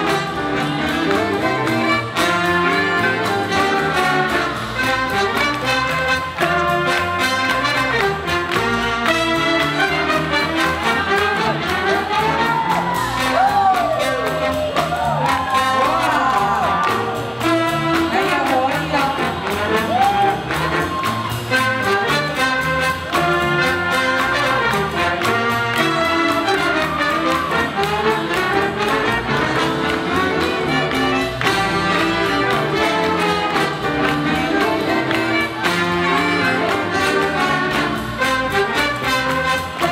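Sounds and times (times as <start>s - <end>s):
swing big band jazz: 0.0s - 39.9s.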